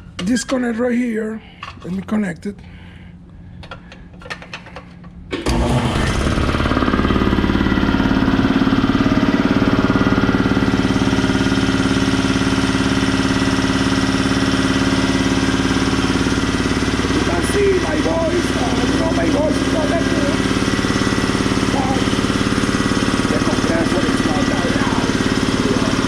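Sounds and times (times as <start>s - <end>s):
air compressor running: 3.6s - 26.0s.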